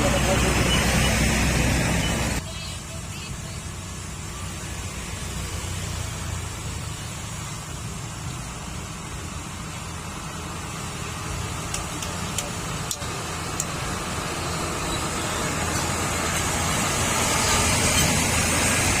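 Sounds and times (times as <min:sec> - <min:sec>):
truck diesel engine running: 0:00.0 - 0:19.0.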